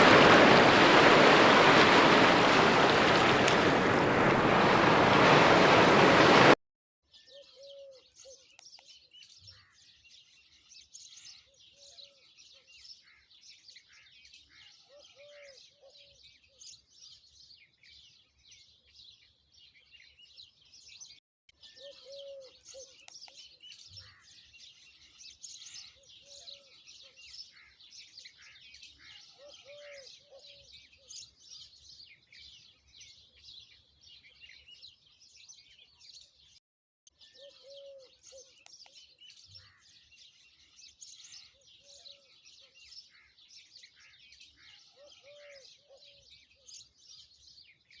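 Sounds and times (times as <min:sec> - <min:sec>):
small birds chirping: 0:00.0 - 0:15.2, 0:18.1 - 0:48.0.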